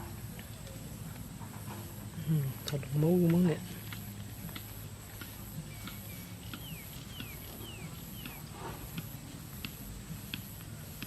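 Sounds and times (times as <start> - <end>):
small birds chipping: 0.2 - 11.0.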